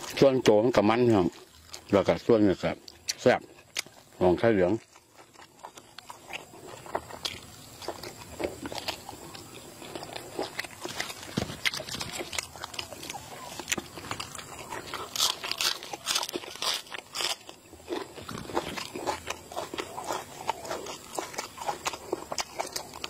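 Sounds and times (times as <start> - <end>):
wet chewing and mouth smacks: 0.0 - 23.0.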